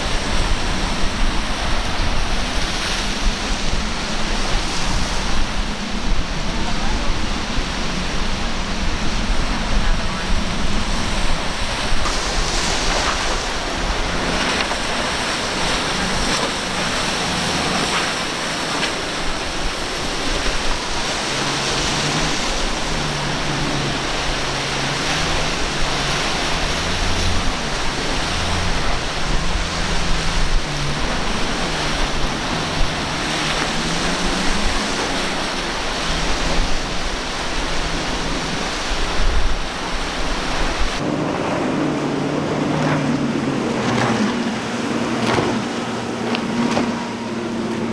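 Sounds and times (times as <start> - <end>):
wind rushing: 0.0 - 46.7
outboard motors droning: 0.0 - 47.9
surf: 0.0 - 47.9.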